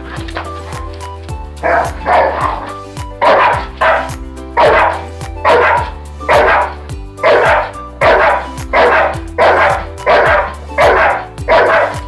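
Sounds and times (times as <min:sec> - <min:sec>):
background music: 0:00.0 - 0:12.0
small dog barking: 0:01.6 - 0:12.0.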